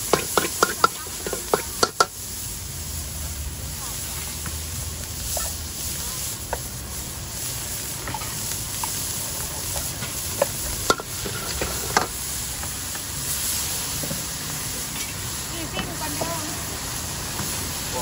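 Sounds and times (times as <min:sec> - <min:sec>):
spatula scraping and knocking wok: 0:00.0 - 0:03.5, 0:04.2 - 0:16.4
meat sizzling in wok: 0:00.0 - 0:18.0.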